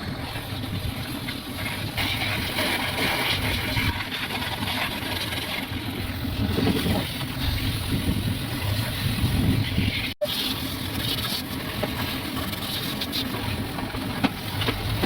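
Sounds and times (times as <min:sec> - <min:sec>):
motor running with rough rumble: 0:00.0 - 0:15.0.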